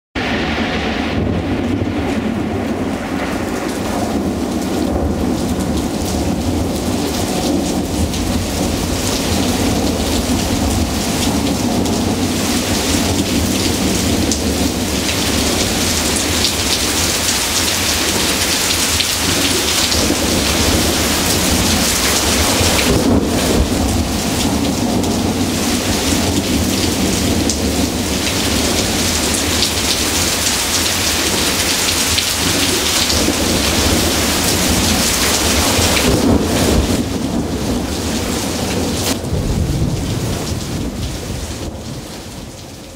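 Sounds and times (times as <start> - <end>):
heavy rain pouring: 0.2 - 42.9
thunder rumbling: 0.2 - 42.9.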